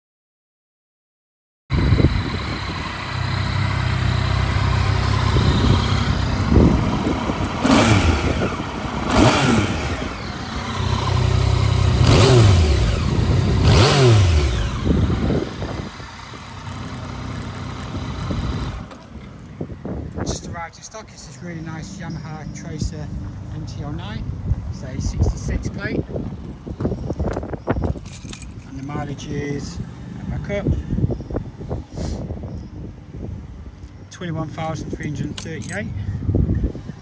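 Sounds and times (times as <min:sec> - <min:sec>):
motorcycle engine idling and revving: 0:01.7 - 0:37.0.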